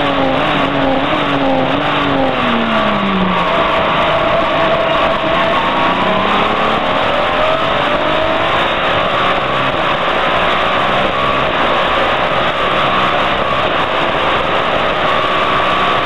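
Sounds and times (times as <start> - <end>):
loud steady rushing noise: 0.0 - 16.0
race car engine: 0.0 - 16.0.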